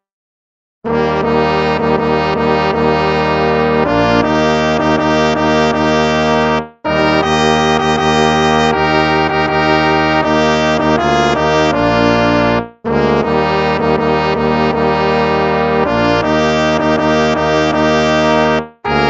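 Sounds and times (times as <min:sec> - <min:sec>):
brass instruments playing a hymn: 0:01.0 - 0:19.0.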